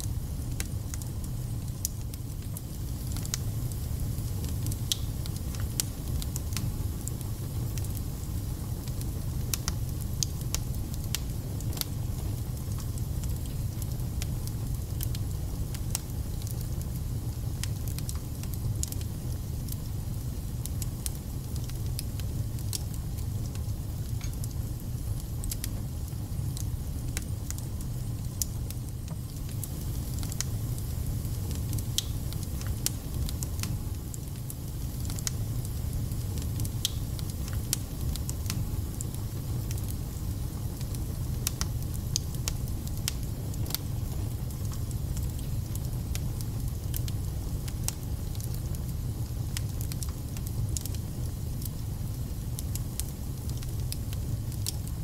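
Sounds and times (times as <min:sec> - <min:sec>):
fire rumbling: 0:00.0 - 0:55.0
logs crackling and popping: 0:00.4 - 0:08.0, 0:08.7 - 0:19.2, 0:20.6 - 0:55.0.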